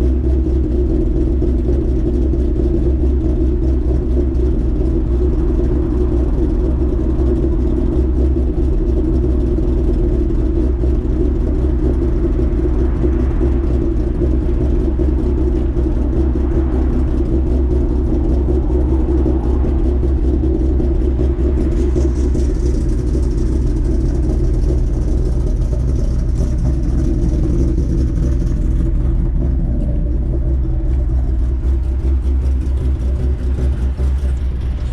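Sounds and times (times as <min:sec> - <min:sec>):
car engine lumpy idle: 0:00.0 - 0:34.9.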